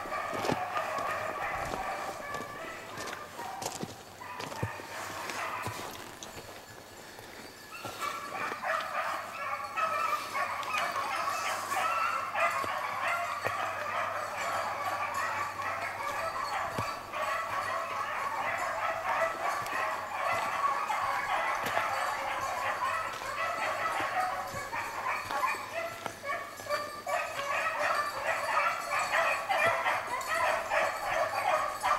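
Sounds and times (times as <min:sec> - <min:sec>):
hounds baying: 0:00.0 - 0:31.9.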